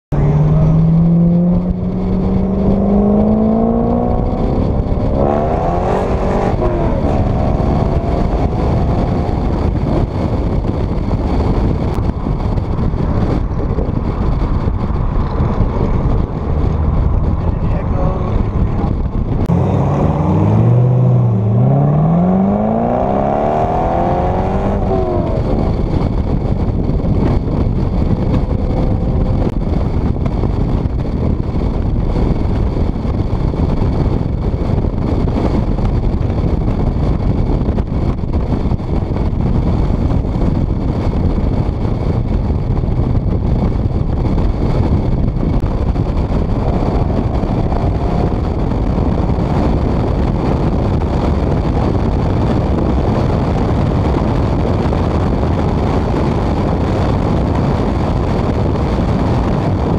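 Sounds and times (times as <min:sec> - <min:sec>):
car engine accelerating hard: 0:00.1 - 0:59.9
wind and road noise: 0:00.1 - 0:59.9.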